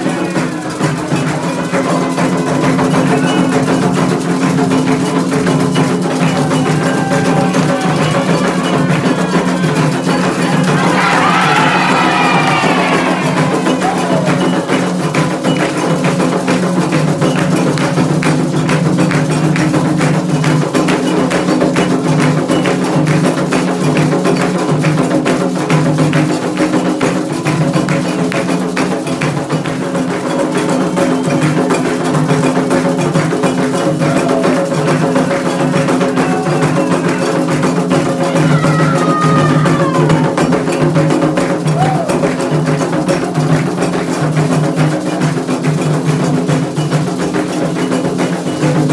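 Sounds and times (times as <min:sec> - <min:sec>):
fast hand drum rhythm: 0:00.0 - 0:48.9
sharp clacking percussion: 0:00.0 - 0:48.9.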